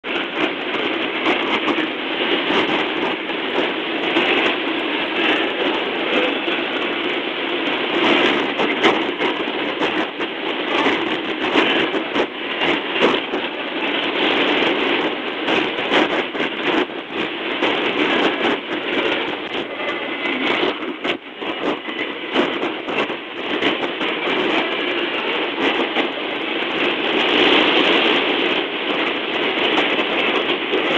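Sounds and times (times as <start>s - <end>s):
radio static hiss: 0.1s - 30.9s.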